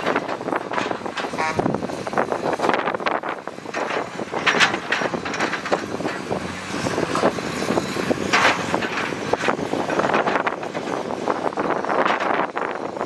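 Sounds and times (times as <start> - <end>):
clatter of knocks and rattles: 0.0 - 12.7
diesel engine running: 0.0 - 13.0.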